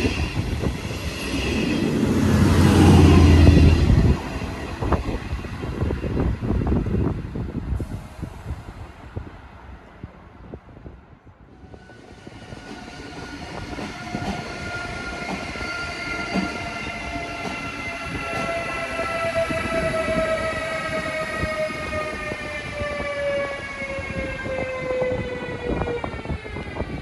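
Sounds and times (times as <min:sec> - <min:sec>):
electric locomotive whine: 0:00.0 - 0:08.8, 0:11.5 - 0:27.0.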